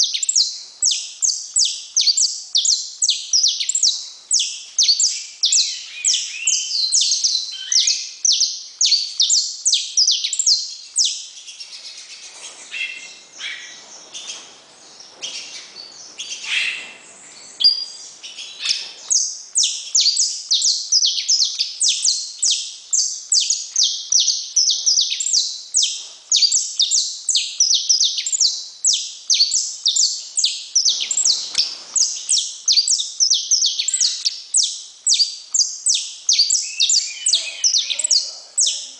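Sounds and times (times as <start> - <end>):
finch singing: 0.0 - 38.9.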